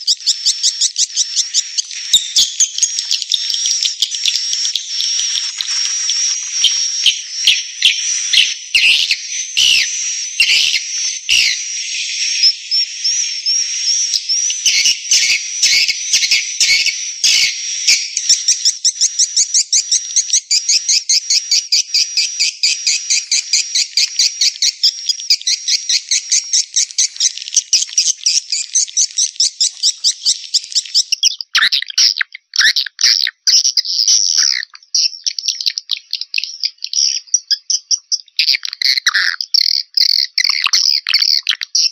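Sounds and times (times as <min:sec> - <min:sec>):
birds twittering high chirps: 0:00.0 - 0:41.9.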